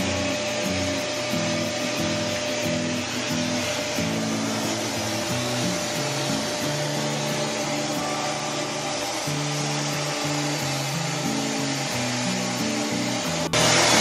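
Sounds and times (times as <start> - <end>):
background music: 0.0 - 14.0
vacuum cleaner running: 0.0 - 14.0.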